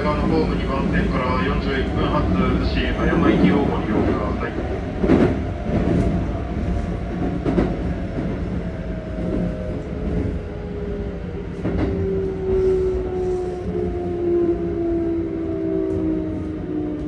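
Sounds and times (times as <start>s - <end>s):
rumble of train wheels: 0.0s - 17.0s.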